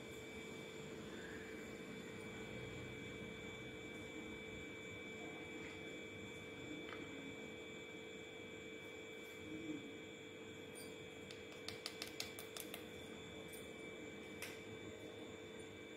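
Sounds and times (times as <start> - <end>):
faint electrical hum: 0.0 - 15.9.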